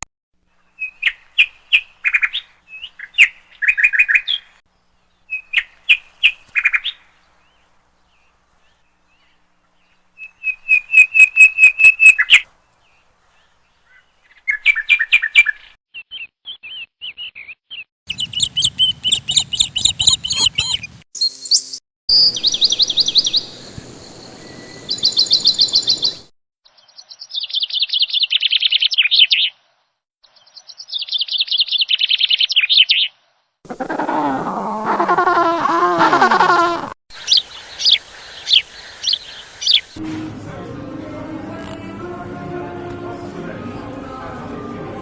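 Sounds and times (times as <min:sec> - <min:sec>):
songbird chirping: 0:00.5 - 0:36.3, 0:37.1 - 0:40.0.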